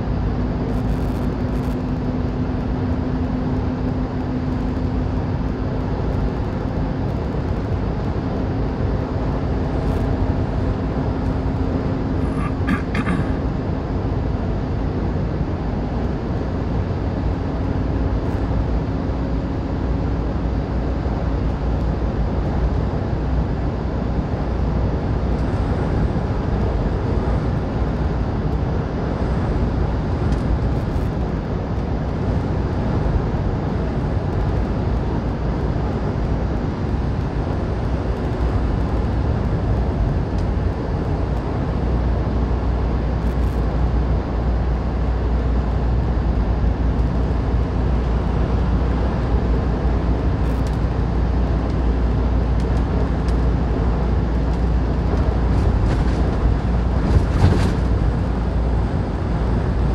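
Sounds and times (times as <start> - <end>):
truck engine rumble from inside cab: 0.0 - 59.9.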